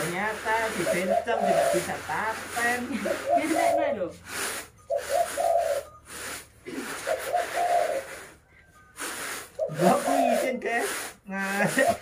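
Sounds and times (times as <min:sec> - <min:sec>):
rice rattling on bamboo trays: 0:00.0 - 0:08.4, 0:09.0 - 0:12.0.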